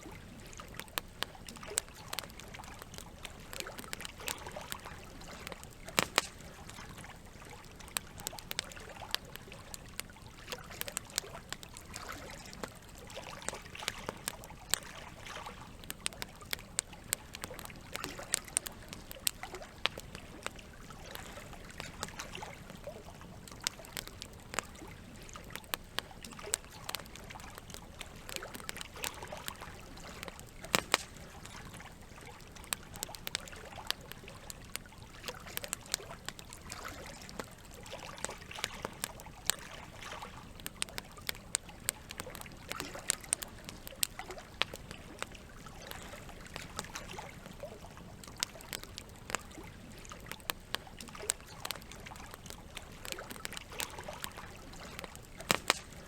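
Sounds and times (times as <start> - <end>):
campfire crackling and popping: 0.0 - 56.0
trickle of running water: 0.0 - 56.0.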